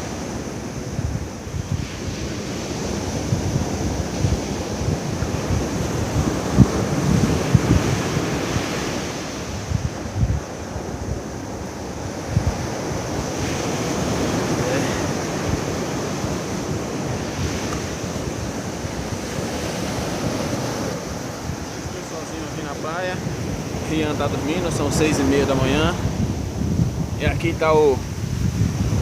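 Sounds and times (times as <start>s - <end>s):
ocean surf washing onto beach: 0.0s - 29.0s
wind buffeting microphone: 0.0s - 29.0s.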